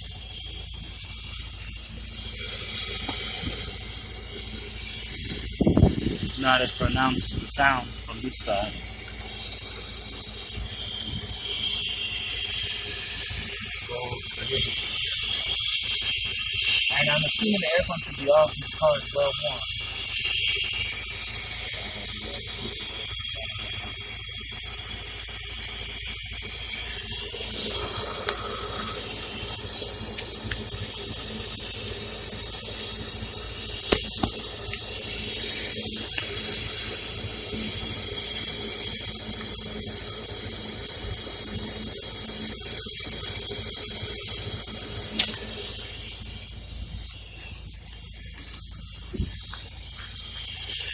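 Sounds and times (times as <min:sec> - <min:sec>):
loud steady hiss: 0:00.0 - 0:50.9
rotary engine idling: 0:00.0 - 0:50.9.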